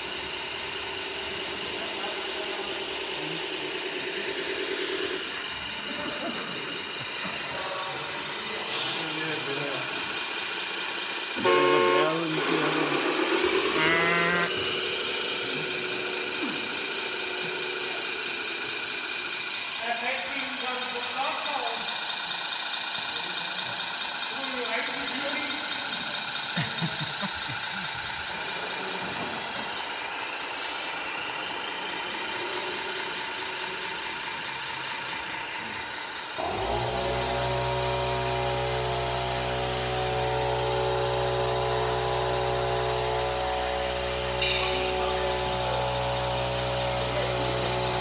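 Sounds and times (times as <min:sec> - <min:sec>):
steady mechanical drone: 0:00.0 - 0:48.0.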